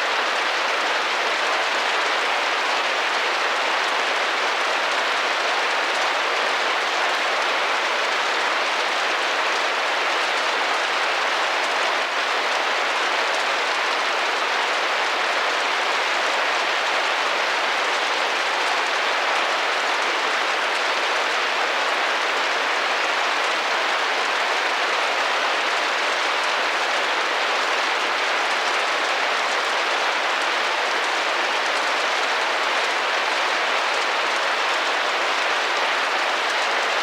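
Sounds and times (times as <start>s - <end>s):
rain on a window pane: 0.0s - 37.0s.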